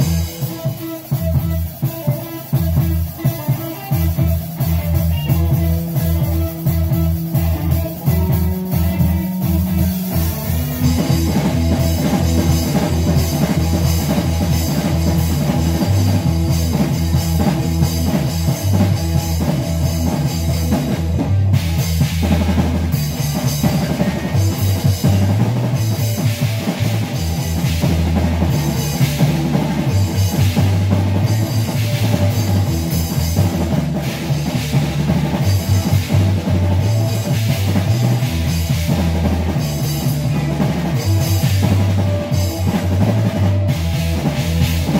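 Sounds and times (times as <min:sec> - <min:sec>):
electric bass notes: 0:00.0 - 0:44.9
rock band playing: 0:00.0 - 0:44.9.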